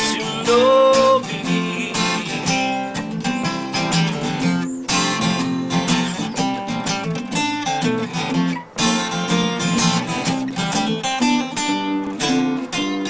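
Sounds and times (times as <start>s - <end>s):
strummed guitar: 0.0s - 13.0s.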